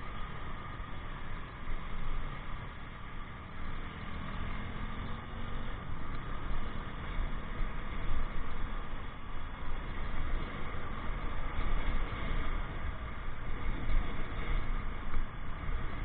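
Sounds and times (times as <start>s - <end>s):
motorcycle running: 0.0s - 16.0s.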